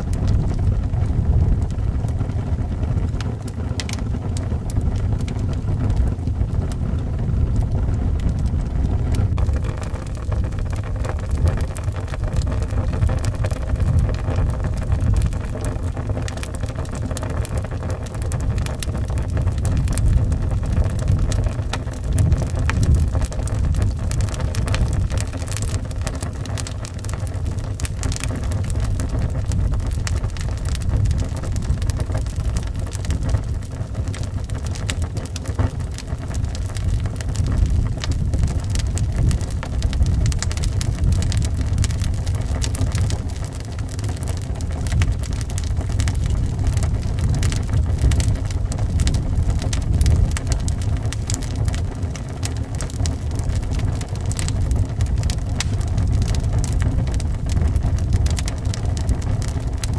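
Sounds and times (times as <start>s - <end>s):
howling wind: 0.0s - 59.9s
wood fire crackling and popping: 0.0s - 59.9s.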